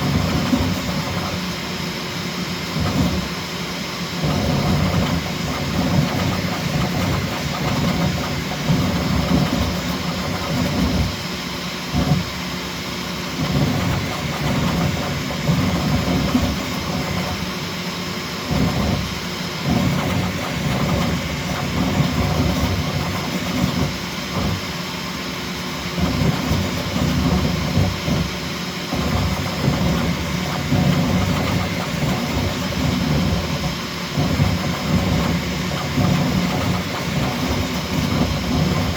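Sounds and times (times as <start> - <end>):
cooling fans rushing: 0.0 - 38.9
printer motors whirring: 0.0 - 38.9.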